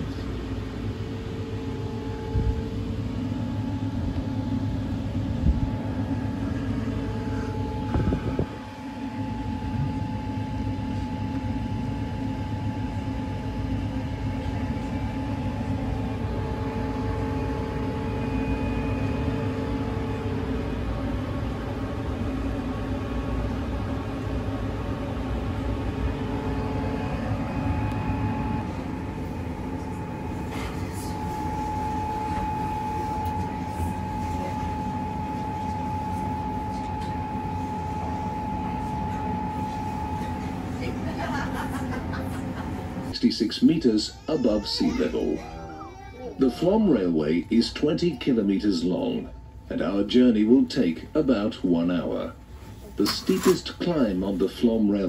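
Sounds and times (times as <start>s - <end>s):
electric locomotive hum: 0.0s - 55.0s.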